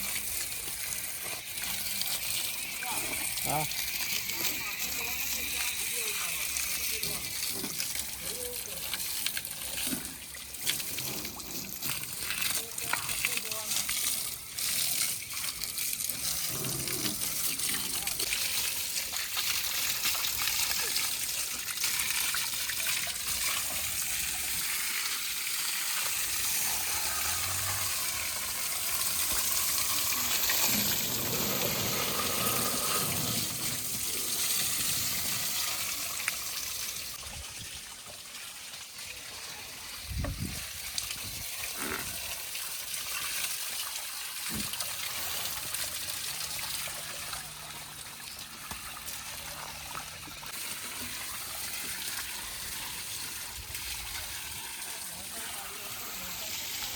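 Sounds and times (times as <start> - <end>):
water gushing: 0.0 - 56.9.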